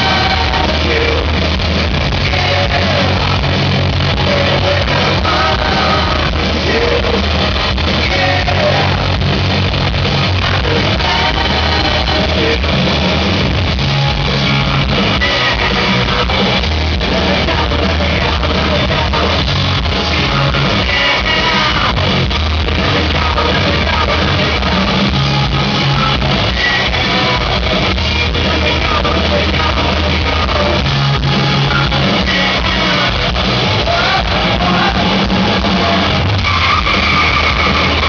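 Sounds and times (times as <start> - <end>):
live hard rock band: 0.0 - 38.0.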